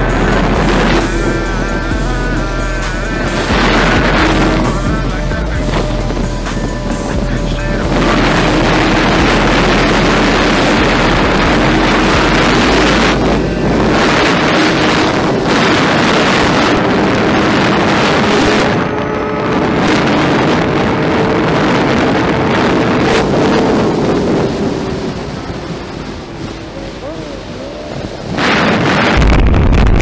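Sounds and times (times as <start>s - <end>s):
motorcycle engine at speed: 0.0s - 29.2s
wind noise on microphone: 0.0s - 30.0s.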